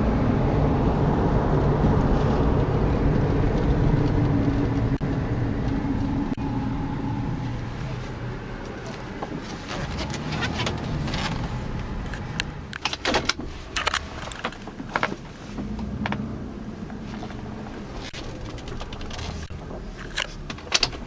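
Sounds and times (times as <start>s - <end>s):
car engine and road hum: 0.0s - 21.0s.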